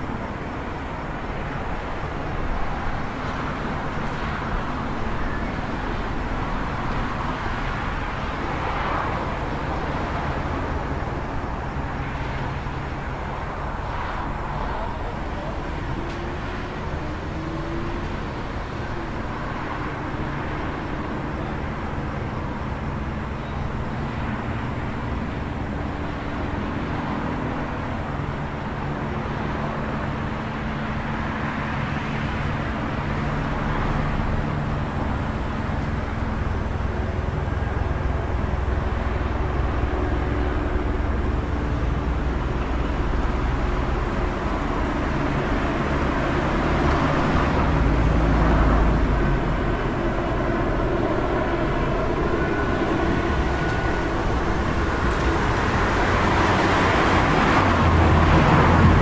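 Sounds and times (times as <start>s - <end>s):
heavy vehicle passing: 0.0s - 59.0s
traffic engines and tyre noise: 0.0s - 59.0s.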